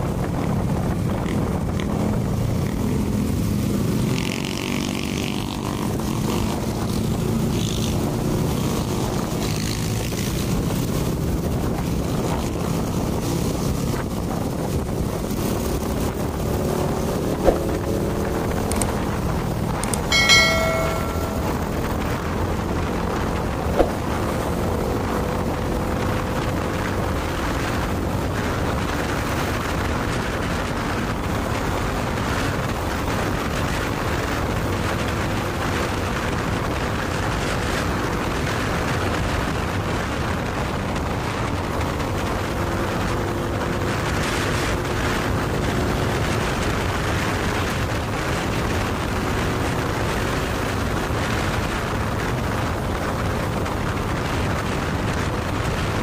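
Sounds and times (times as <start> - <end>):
motorcycle road noise: 0.0 - 56.0.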